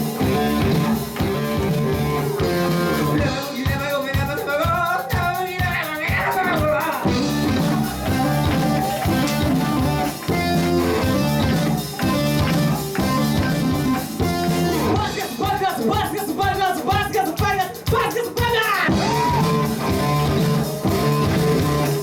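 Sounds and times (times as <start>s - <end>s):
live rock band playing: 0.0s - 22.0s
voices singing along: 1.7s - 22.0s.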